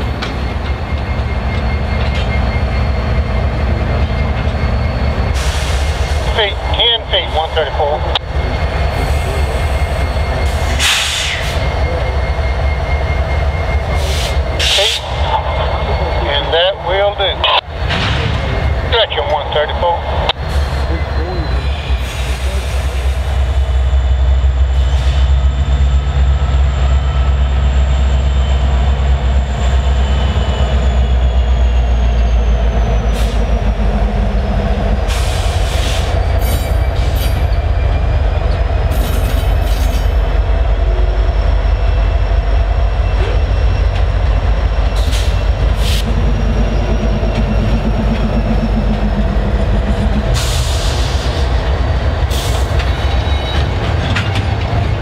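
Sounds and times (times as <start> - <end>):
high wheel squeal: 0.0 - 17.3, 20.4 - 55.0
locomotive engines droning: 0.0 - 55.0.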